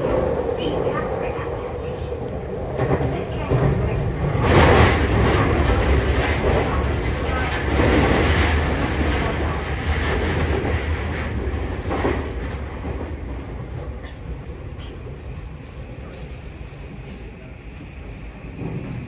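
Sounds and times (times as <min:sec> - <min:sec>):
electric train rumbling on rails: 0:00.0 - 0:19.0.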